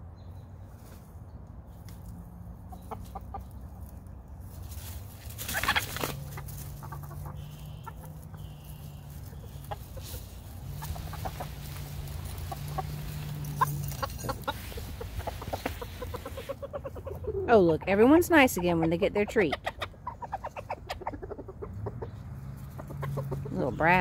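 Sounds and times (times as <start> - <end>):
roosters clucking: 0.6 - 24.0.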